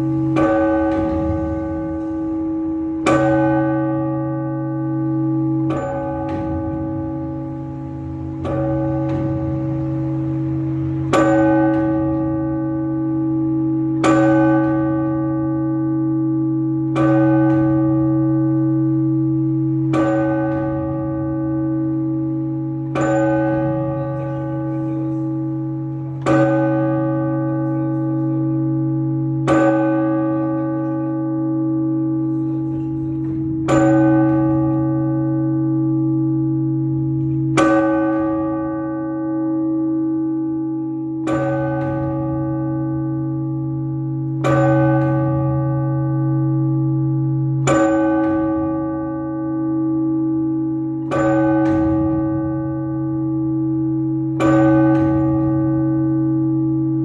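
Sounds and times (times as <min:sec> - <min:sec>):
large church bell tolling: 0:00.0 - 0:57.0.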